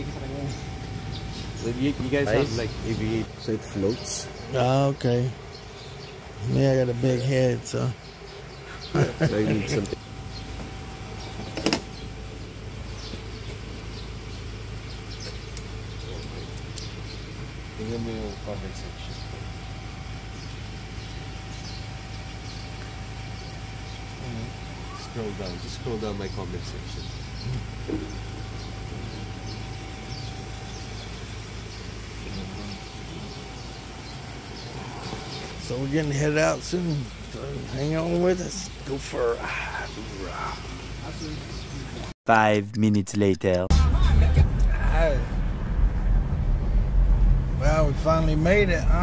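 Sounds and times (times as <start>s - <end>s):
faint high chirps: 0.0s - 42.1s
vehicle engine idling: 0.0s - 42.1s, 43.7s - 49.0s
low background hum: 0.0s - 49.0s.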